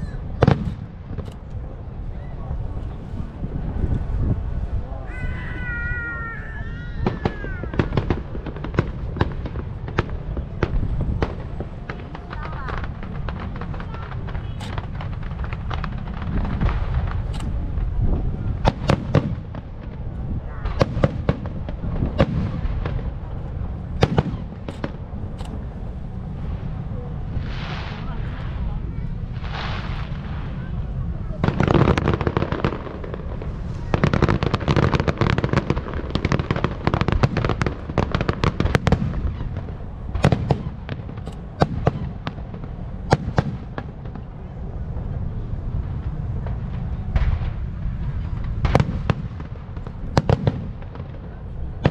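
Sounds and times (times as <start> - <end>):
fireworks rumbling and crackling: 0.0 - 51.9
loud firework bangs: 0.0 - 51.9.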